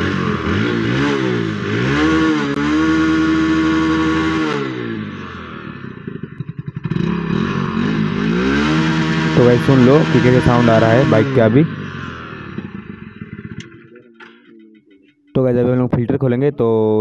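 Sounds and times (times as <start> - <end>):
motorcycle engine revving: 0.0 - 15.3.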